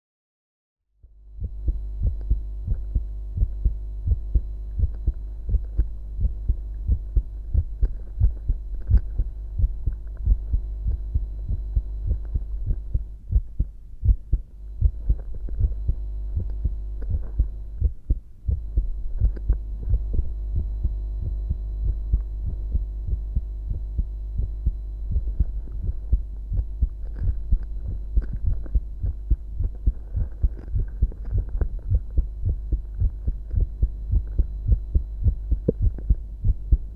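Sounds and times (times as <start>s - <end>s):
constant low hum: 0.9s - 36.9s
heartbeat thuds: 1.0s - 36.9s.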